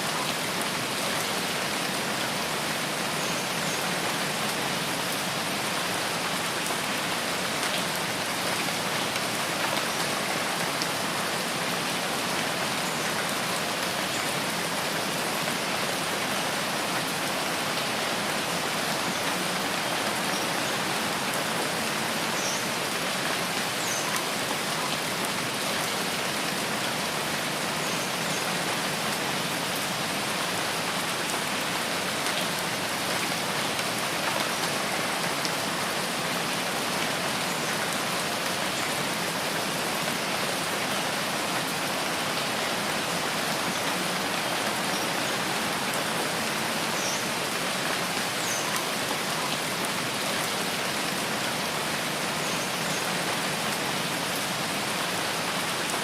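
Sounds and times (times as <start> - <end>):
rain patter on leaves: 0.0 - 56.0.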